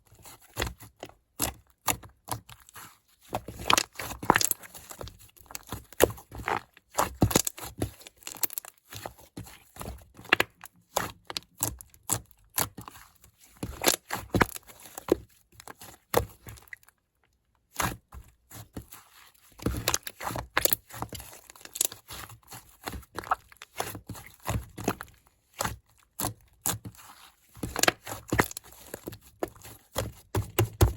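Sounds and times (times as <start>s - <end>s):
clay crunching and snapping: 0.2s - 30.9s.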